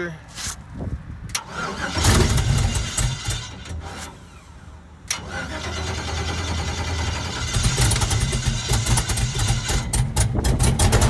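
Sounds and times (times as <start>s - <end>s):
race car engine running roughly: 1.7s - 11.0s.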